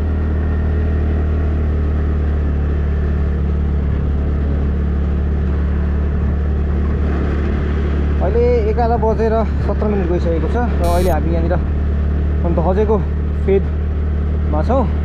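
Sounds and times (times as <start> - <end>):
motorcycle engine: 0.0 - 15.0
road rumble: 0.0 - 15.0.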